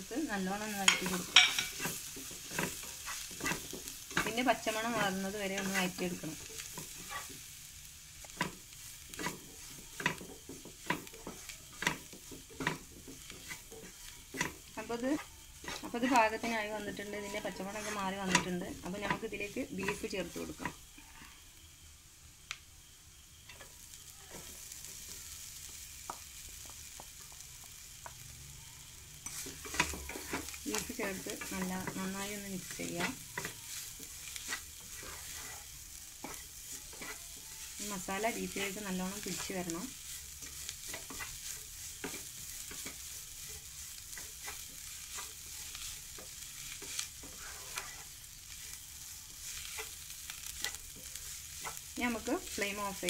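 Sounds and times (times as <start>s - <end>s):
masala sizzling in a frying pan: 0.0s - 53.0s.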